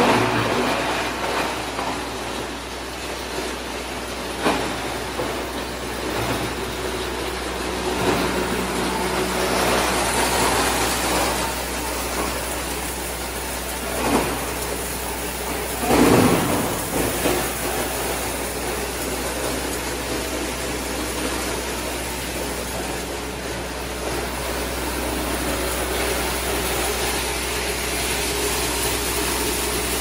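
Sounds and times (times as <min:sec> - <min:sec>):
low motor hum: 0:00.0 - 0:30.0
plastic crusher grinding: 0:00.0 - 0:30.0.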